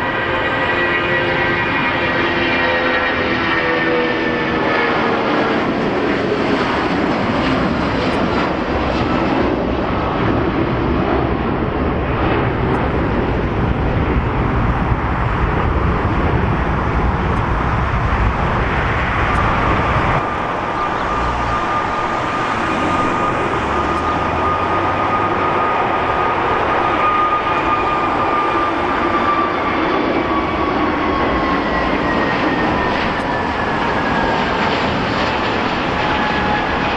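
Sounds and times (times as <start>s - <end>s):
high whine: 0.0s - 9.6s, 11.6s - 36.9s
jet engines roaring: 0.0s - 36.9s.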